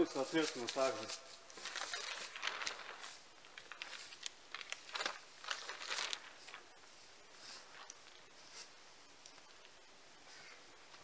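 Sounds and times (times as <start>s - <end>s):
plastic sheeting crinkling: 0.0s - 11.0s.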